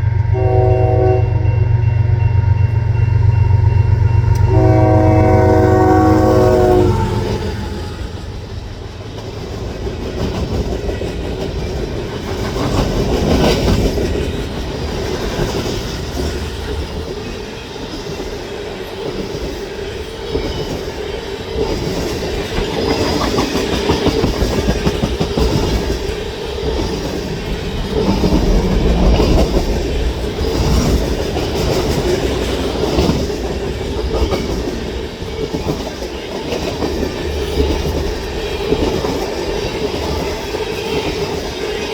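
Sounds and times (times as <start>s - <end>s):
freight train rumble: 0.0s - 41.9s
train wheels clacking on rail joints: 4.0s - 41.9s.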